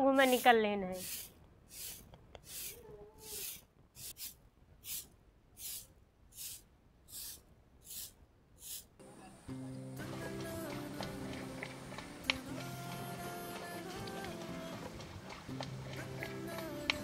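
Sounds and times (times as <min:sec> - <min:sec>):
broom sweeping earth floor: 0:00.0 - 0:08.9, 0:10.0 - 0:17.0.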